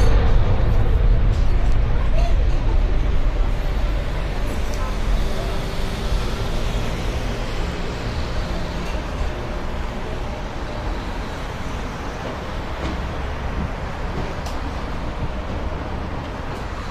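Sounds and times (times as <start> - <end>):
dense road traffic rumble: 0.0 - 16.9.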